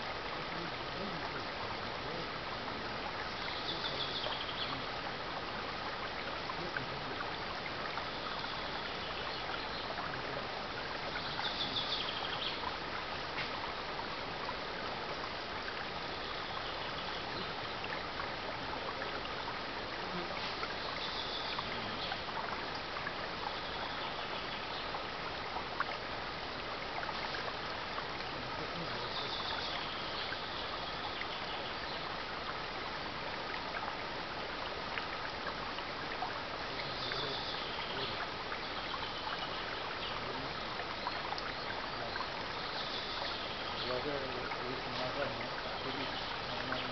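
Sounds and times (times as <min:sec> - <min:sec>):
stream babbling over stones: 0:00.0 - 0:46.9.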